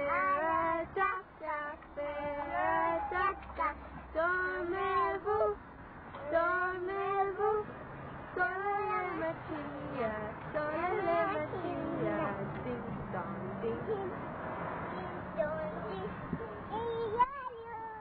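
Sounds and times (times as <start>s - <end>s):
girl singing: 0.0s - 5.6s, 6.2s - 7.7s, 8.4s - 14.2s, 14.8s - 18.0s.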